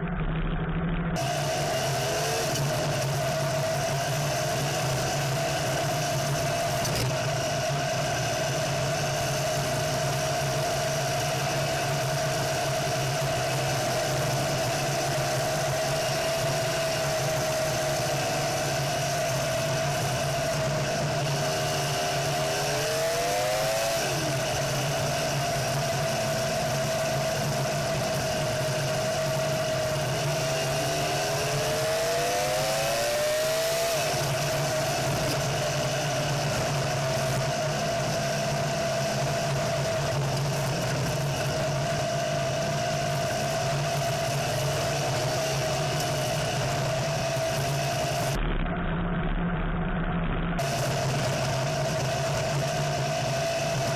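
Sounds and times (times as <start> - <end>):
buggy engine revving: 0.8 - 48.4, 50.6 - 53.9.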